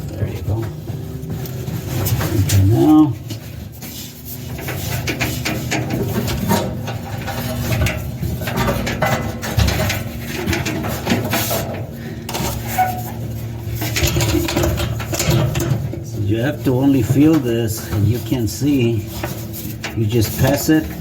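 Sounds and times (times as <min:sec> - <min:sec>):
metal parts clicking and rattling: 0:01.3 - 0:21.0.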